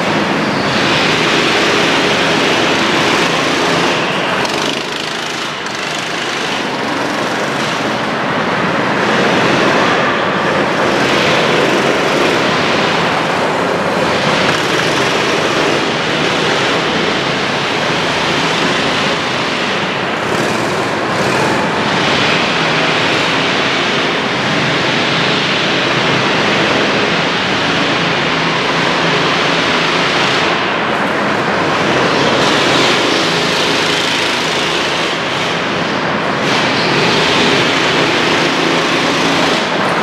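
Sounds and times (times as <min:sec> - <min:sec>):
go-kart engines running: 0:00.0 - 0:40.0.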